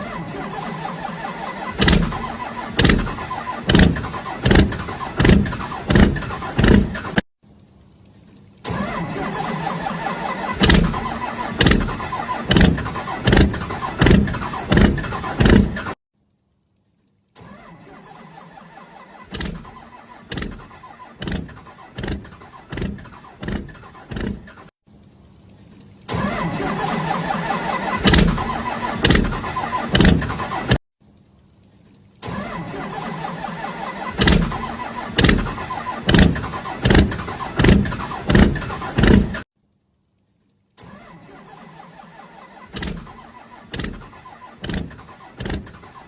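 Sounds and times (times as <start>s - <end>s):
engine pops: 0.0s - 7.3s, 8.4s - 16.0s, 17.5s - 30.8s, 32.2s - 39.5s, 40.8s - 46.0s.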